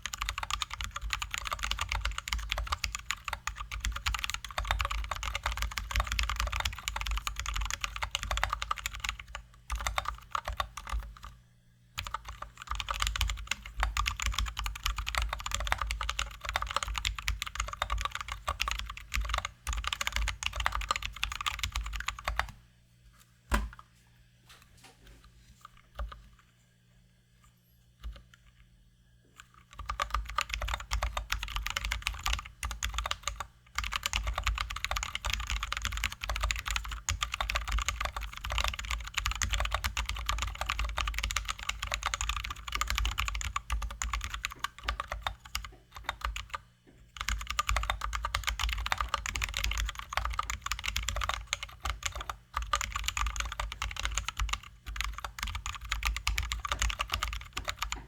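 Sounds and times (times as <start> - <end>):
fast typing on mechanical keyboard: 0.0 - 11.3, 12.0 - 22.6, 29.6 - 46.6, 47.2 - 58.0.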